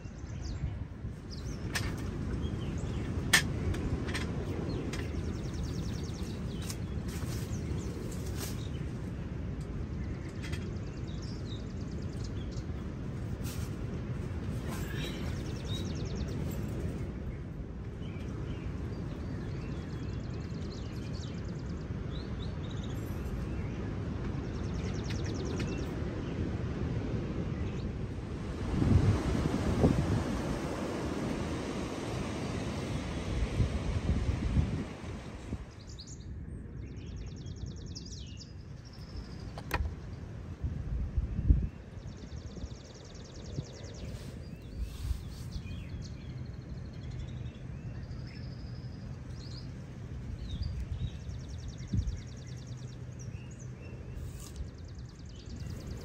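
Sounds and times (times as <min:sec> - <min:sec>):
birds chirping: 0:00.0 - 0:40.5, 0:41.2 - 0:56.0
wind buffeting microphone: 0:00.0 - 0:56.0.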